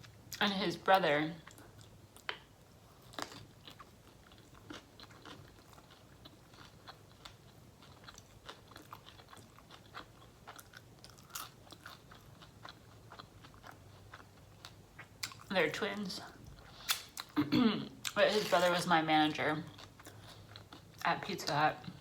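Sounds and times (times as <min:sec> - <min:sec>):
chewing and crunching food: 0:01.3 - 0:17.4, 0:18.0 - 0:22.0.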